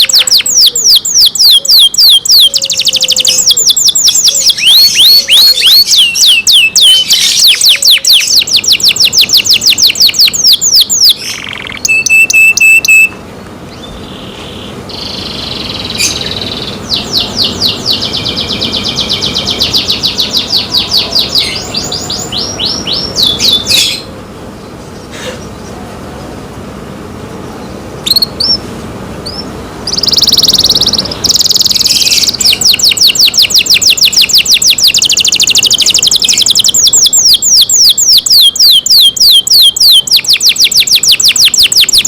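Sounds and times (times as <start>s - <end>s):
canary singing: 0.0s - 25.8s, 27.5s - 42.0s.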